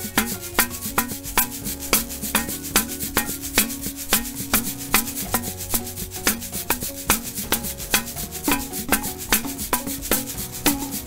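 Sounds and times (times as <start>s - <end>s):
rice jar shaking: 0.0s - 11.0s
tin can tapping: 0.0s - 11.0s.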